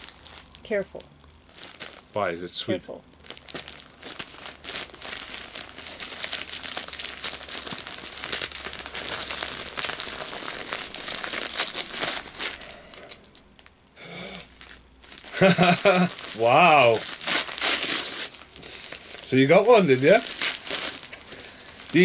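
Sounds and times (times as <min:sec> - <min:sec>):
wrapping paper tearing and crinkling: 0:00.0 - 0:02.2, 0:03.1 - 0:22.0.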